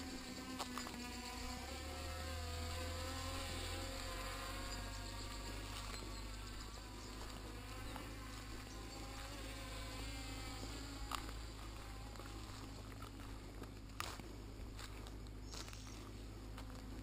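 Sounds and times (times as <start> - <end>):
low steady rumble: 0.0 - 17.0
quadcopter propellers buzzing: 0.0 - 17.0.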